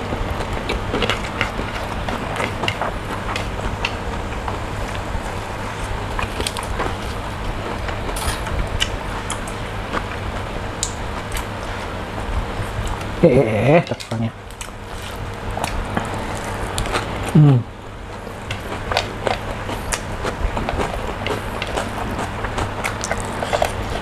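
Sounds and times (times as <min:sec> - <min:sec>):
person chewing: 0:00.0 - 0:13.1, 0:14.0 - 0:24.0
low hum: 0:00.0 - 0:24.0.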